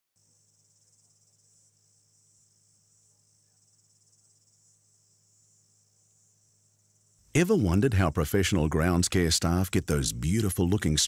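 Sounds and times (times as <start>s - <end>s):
crickets trilling: 0.2s - 11.0s.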